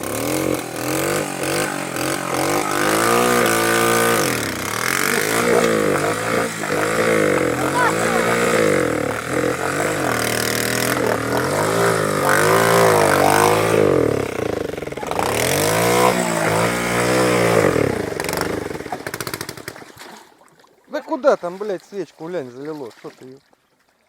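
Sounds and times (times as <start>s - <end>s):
small engine revving and sputtering: 0.0s - 19.9s.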